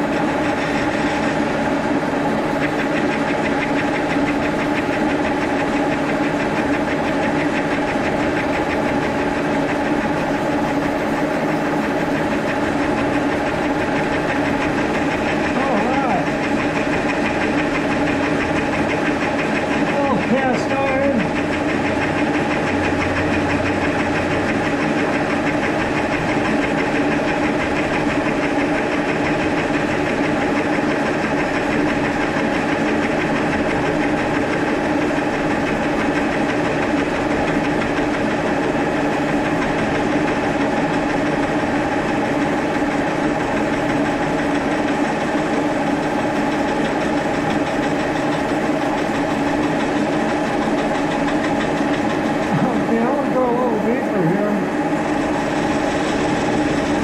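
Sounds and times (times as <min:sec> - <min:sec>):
end mill cutting metal: 0:00.0 - 0:57.0
milling spindle humming: 0:00.0 - 0:57.0.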